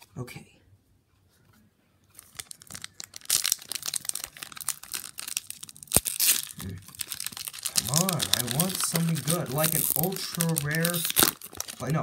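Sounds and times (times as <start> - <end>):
foil wrapper crinkling and tearing: 2.2 - 12.0.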